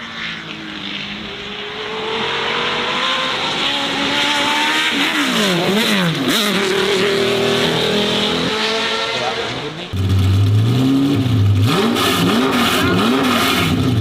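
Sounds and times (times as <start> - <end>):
racing car engine accelerating: 0.0 - 14.0.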